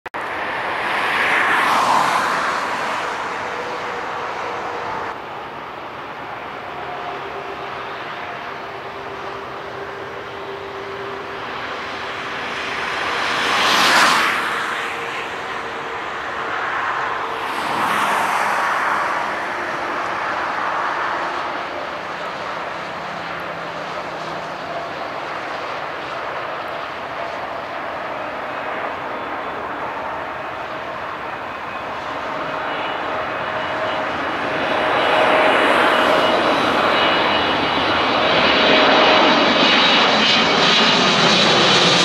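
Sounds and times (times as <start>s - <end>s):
distant jet engine rush: 0.2s - 42.0s
jet passing noise: 0.2s - 42.0s.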